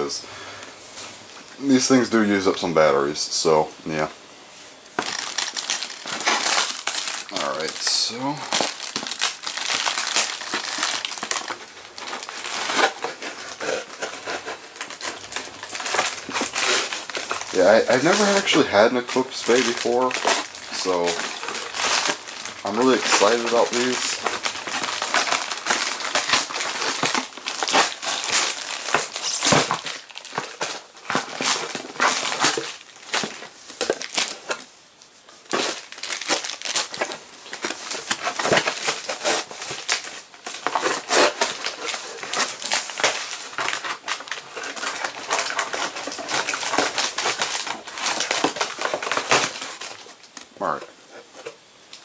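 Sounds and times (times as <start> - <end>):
packaging crinkling: 4.9 - 52.0.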